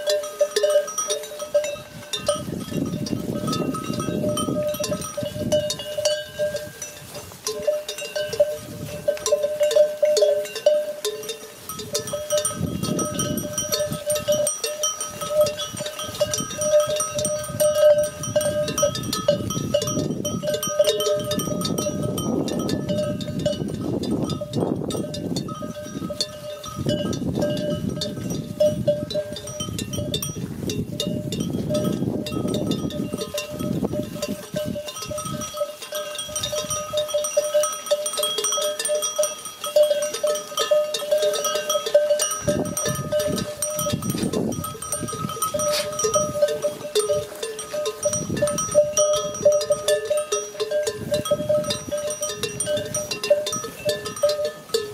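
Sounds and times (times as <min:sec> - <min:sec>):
sheep bells clanking: 0:00.0 - 0:54.9.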